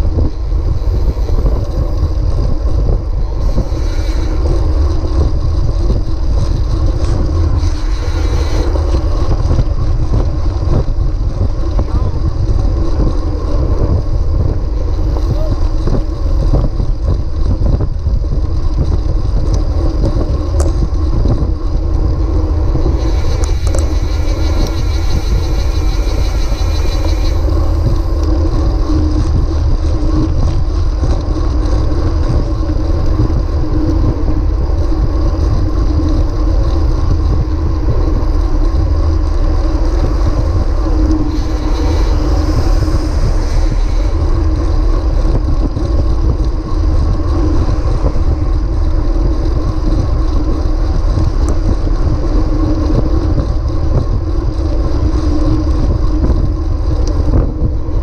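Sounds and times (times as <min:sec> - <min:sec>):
high whir: 0:00.0 - 0:58.0
tyre and road noise: 0:00.0 - 0:58.0
wind buffeting microphone: 0:00.0 - 0:58.0.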